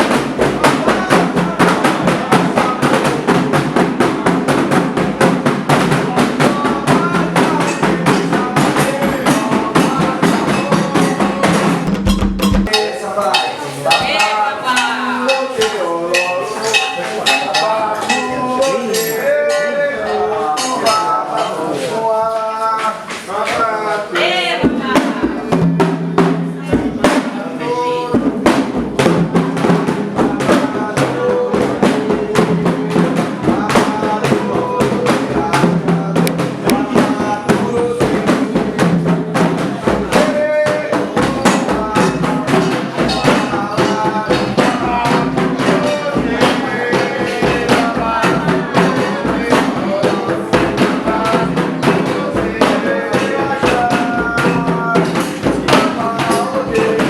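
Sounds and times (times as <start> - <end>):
voices chanting: 0.0 - 11.9, 12.6 - 57.0
hand drums beating: 0.0 - 57.0.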